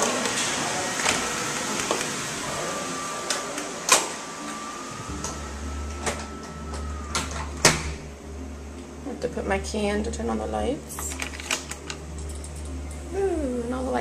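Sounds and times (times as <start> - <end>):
low steady hum: 0.7 - 14.0.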